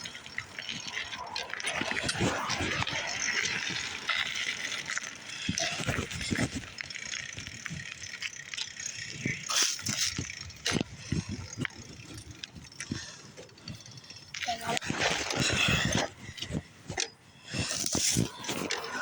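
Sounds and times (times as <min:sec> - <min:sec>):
bicycle frame rattling: 0:00.0 - 0:19.0.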